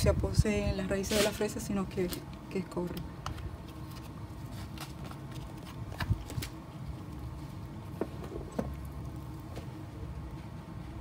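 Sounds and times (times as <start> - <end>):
low steady rumble: 0.0 - 11.0
hands rustling potting soil: 0.9 - 2.2, 3.4 - 10.9.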